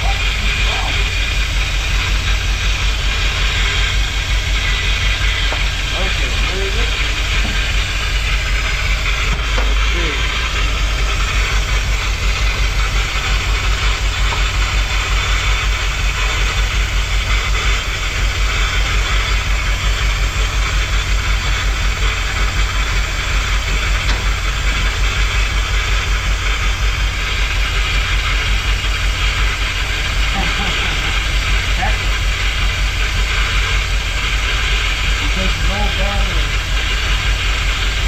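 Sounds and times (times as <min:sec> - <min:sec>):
engine idling roughly: 0:00.0 - 0:38.0.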